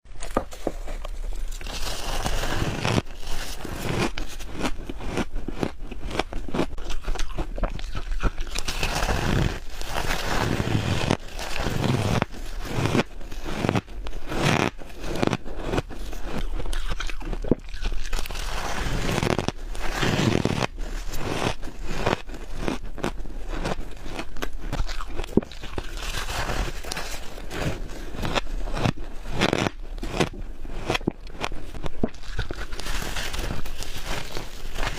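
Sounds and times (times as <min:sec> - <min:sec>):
crunching bites into frost: 0:00.2 - 0:34.9.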